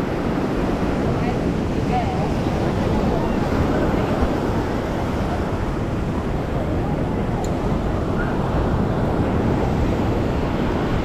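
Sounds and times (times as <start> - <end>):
surf washing: 0.0 - 11.0
wind rumbling on microphone: 0.0 - 11.0.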